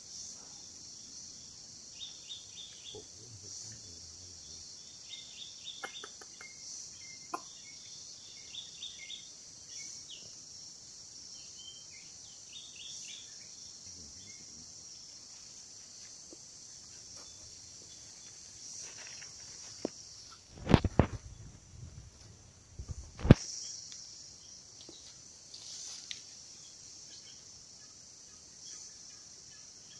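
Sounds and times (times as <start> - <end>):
forest insects droning: 0.0 - 29.9.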